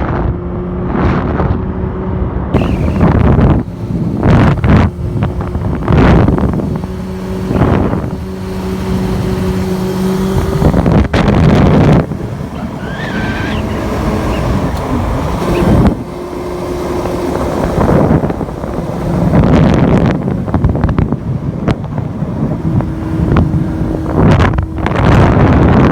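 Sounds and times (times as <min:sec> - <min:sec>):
wind buffeting microphone: 0:00.0 - 0:25.9
quad bike engine revving: 0:02.6 - 0:25.9.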